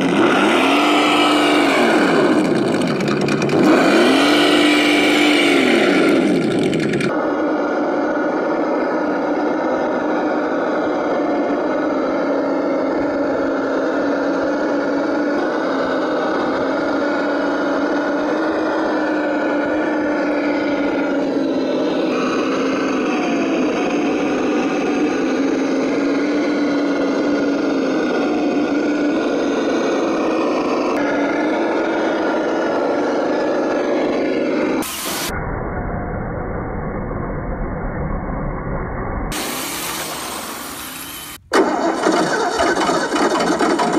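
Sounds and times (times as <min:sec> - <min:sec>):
electronic engine sound drone: 0:00.0 - 0:43.9.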